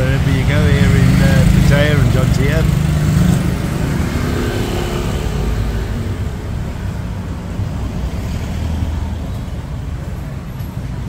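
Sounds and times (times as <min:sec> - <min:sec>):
bus engine rumble in traffic: 0:00.0 - 0:11.0
engine hum: 0:00.0 - 0:11.0.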